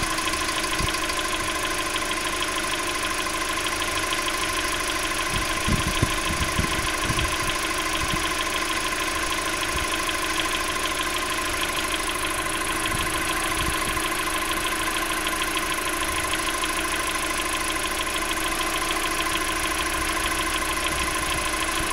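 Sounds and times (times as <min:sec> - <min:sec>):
car engine idling: 0:00.0 - 0:21.9
rapid engine knock: 0:00.0 - 0:21.9.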